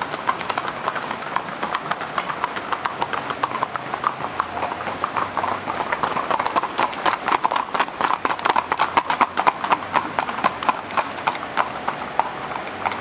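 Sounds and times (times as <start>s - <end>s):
horse hooves clip-clopping on road: 0.0s - 13.0s.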